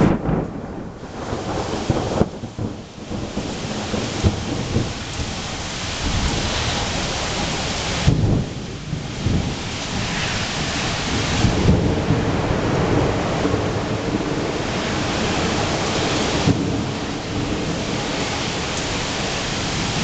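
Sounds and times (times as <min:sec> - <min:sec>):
steady rain: 0:00.0 - 0:20.0
thunder rumbles: 0:00.0 - 0:20.0.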